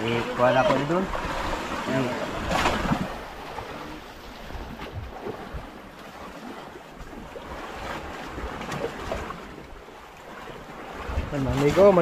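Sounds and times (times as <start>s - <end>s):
sea waves: 0.0s - 12.0s.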